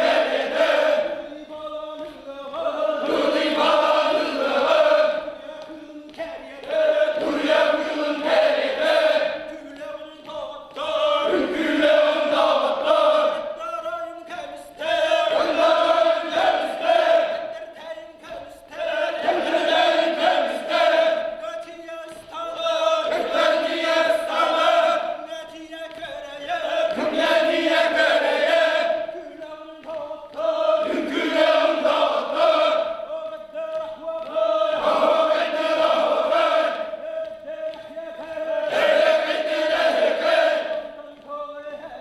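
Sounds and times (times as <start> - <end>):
men chanting: 0.0 - 42.0.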